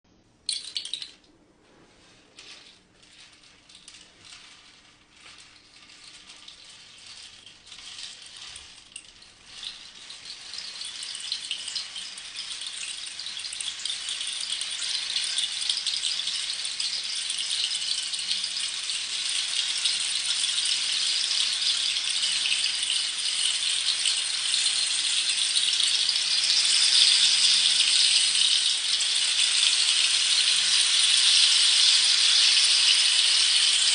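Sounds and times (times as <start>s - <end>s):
rain stick rattling: 0.4s - 1.3s, 2.0s - 33.9s.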